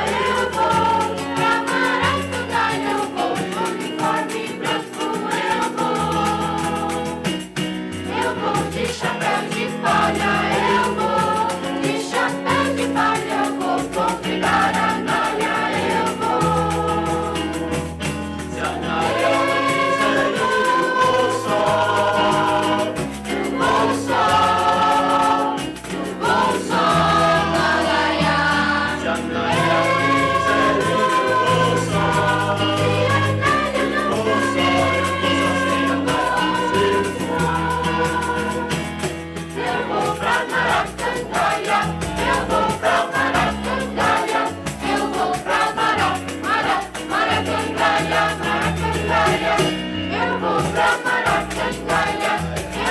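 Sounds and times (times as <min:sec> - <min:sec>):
choir singing in parts: 0:00.0 - 0:52.9
instrumental accompaniment: 0:00.0 - 0:52.9.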